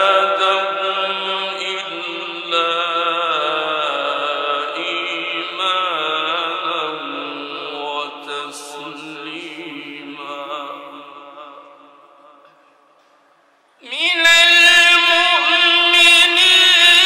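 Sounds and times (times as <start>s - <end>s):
man chanting recitation: 0.0s - 12.4s, 13.8s - 17.0s.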